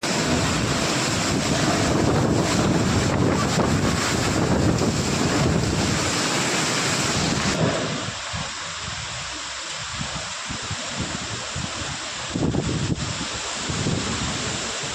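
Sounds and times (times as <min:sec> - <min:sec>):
heavy rain: 0:00.0 - 0:14.9
strong wind: 0:00.0 - 0:14.9
wind buffeting microphone: 0:00.0 - 0:14.9.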